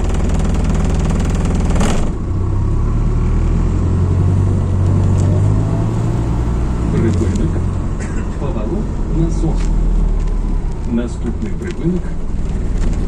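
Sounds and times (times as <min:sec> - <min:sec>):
bus diesel engine humming: 0:00.0 - 0:13.0.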